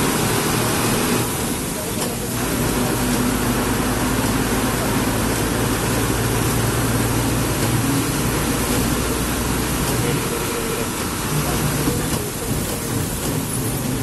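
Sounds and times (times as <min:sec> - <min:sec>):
bus engine droning: 0:00.0 - 0:14.0
rain hiss: 0:00.0 - 0:14.0
tyres on wet road: 0:00.0 - 0:14.0.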